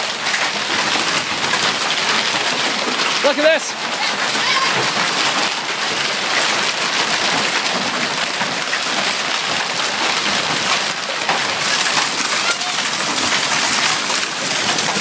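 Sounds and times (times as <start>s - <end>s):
hail and heavy rain pelting: 0.0s - 15.0s.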